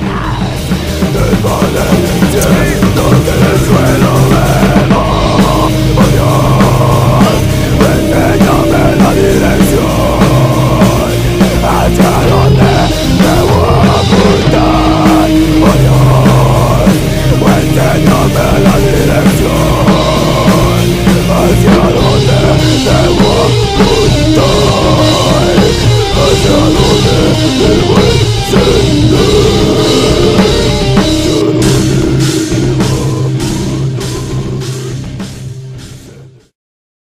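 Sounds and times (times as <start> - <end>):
heavy rock music: 0.0 - 36.5.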